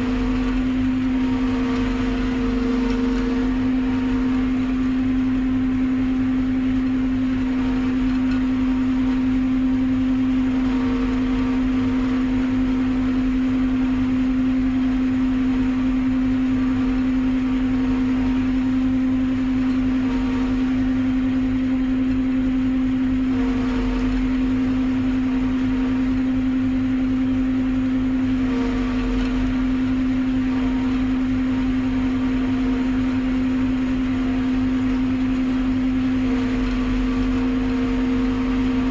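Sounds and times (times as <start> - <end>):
harvester engine droning hum: 0.0 - 38.9.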